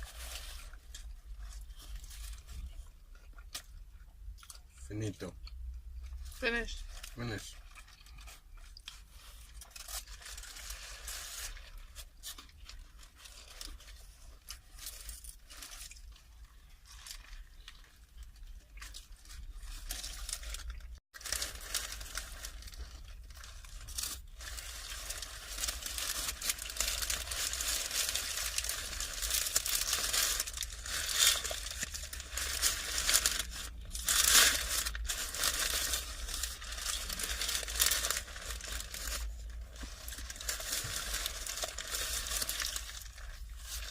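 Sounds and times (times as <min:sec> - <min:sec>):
wrapping crumpled and torn: 0:00.0 - 0:03.7, 0:06.1 - 0:43.9.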